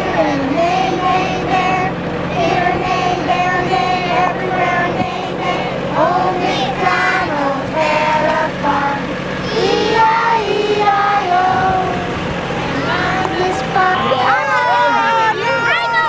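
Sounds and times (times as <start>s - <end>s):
children singing together: 0.0s - 16.0s
steady low hum: 0.0s - 16.0s.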